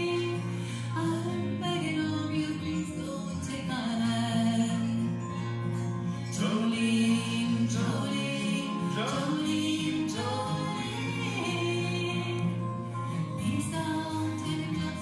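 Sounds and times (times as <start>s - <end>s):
woman singing: 0.0s - 5.4s, 6.2s - 15.0s
acoustic guitars strumming: 0.0s - 15.0s.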